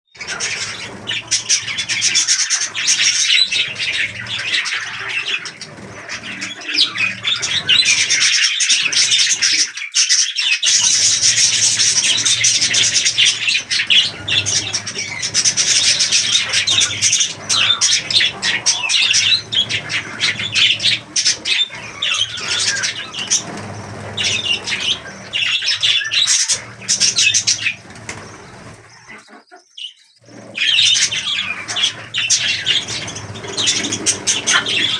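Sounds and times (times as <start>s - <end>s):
budgerigars chattering and chirping: 0.2s - 34.9s.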